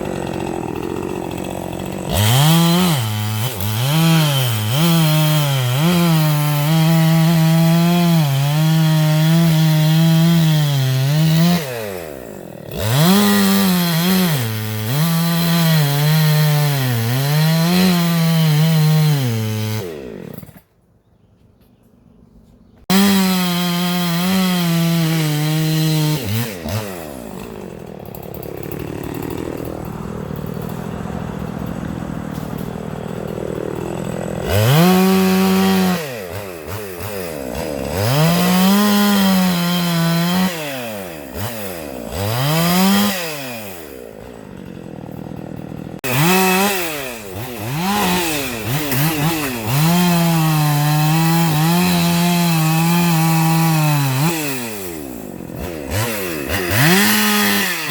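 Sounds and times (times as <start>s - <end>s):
chainsaw revving and idling: 0.0s - 20.7s, 22.8s - 57.9s.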